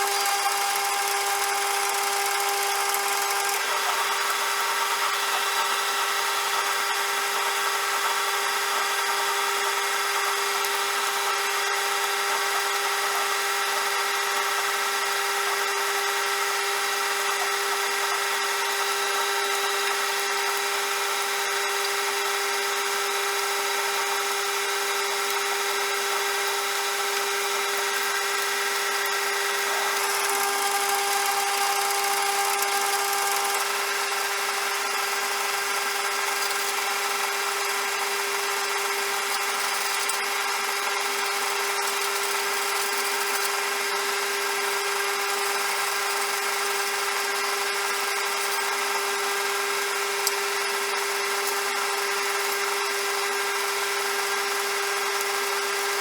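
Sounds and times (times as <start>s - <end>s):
metal lathe whining: 0.0s - 56.0s.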